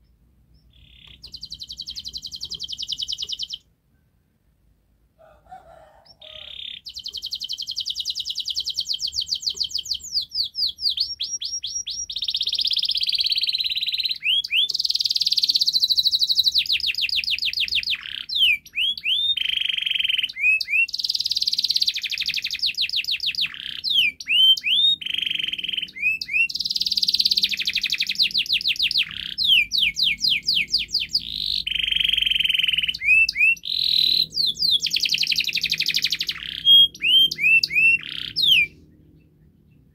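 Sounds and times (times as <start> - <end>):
canary singing trills: 0.0 - 3.7, 6.0 - 39.9.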